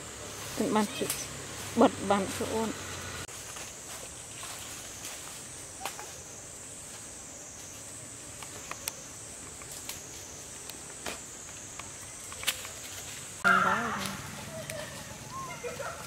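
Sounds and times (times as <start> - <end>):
insect chorus drone: 0.0 - 16.0.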